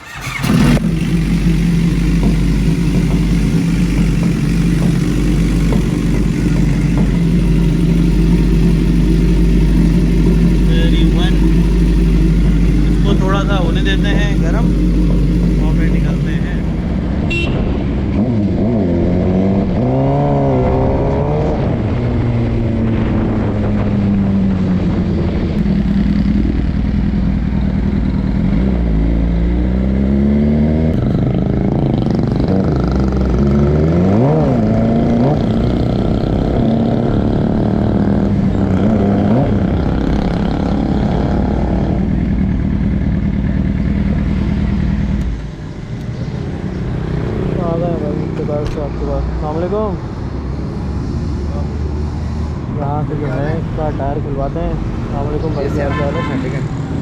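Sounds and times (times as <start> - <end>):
motorcycle engine revving: 0.0 - 50.3.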